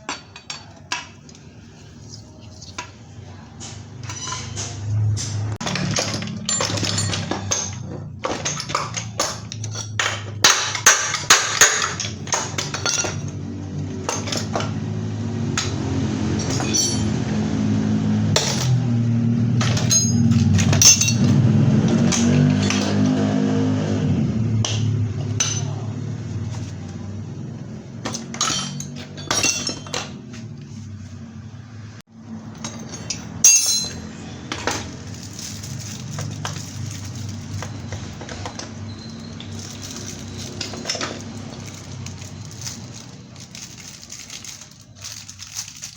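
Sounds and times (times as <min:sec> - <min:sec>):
metal tools clinking on engine parts: 0:00.0 - 0:01.5, 0:02.2 - 0:17.7, 0:18.3 - 0:23.4, 0:24.6 - 0:30.7, 0:32.2 - 0:45.9.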